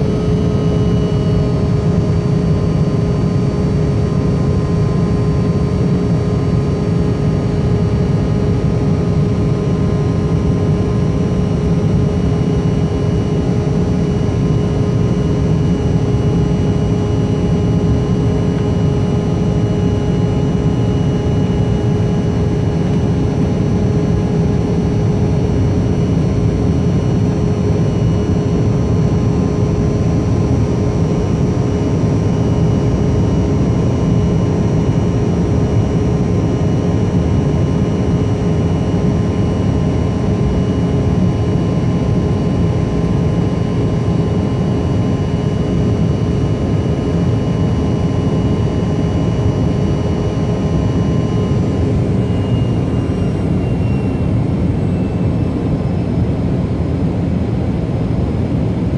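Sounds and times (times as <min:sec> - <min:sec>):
constant whining tones: 0:00.0 - 0:58.9
jet engines rumbling: 0:00.0 - 0:58.9.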